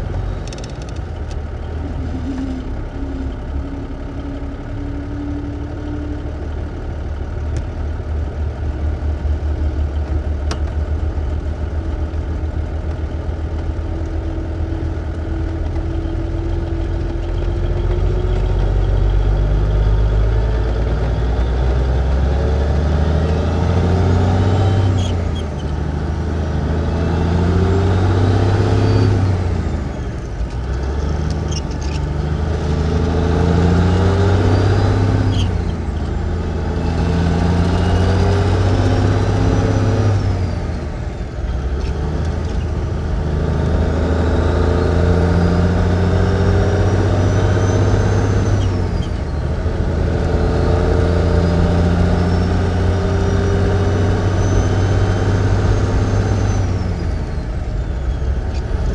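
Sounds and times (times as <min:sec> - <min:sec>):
truck engine shifting gears: 0:00.0 - 0:58.9.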